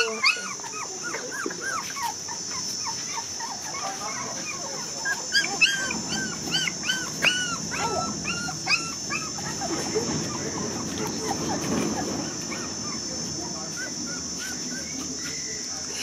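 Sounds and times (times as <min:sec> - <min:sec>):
puppies whimpering and yelping: 0:00.0 - 0:16.0.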